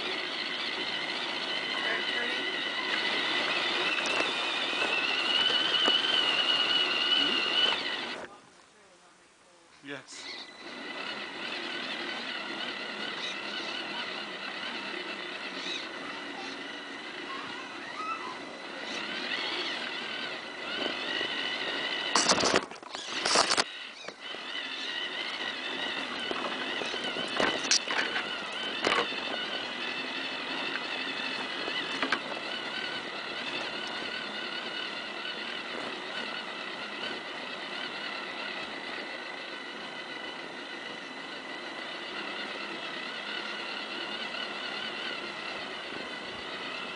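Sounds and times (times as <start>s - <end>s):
electric motor and gears whining: 0.0s - 8.4s, 10.0s - 46.9s.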